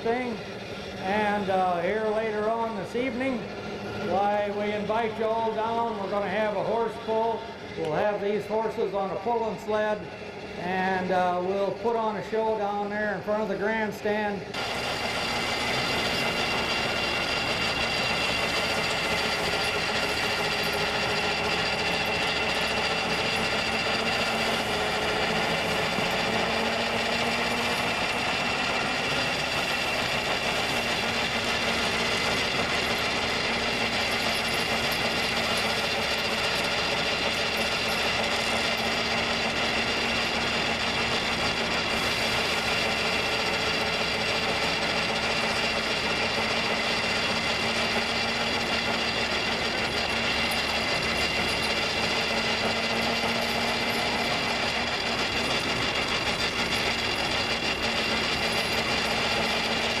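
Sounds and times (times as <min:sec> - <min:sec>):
constant mechanical hum: 0:00.0 - 1:00.0
threshing machine rattling: 0:00.0 - 1:00.0.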